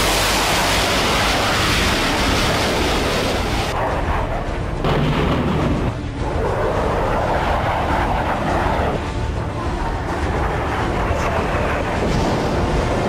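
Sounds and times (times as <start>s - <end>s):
dull jet rumble: 0.0s - 13.0s
fighter jet engines roaring: 0.0s - 13.0s.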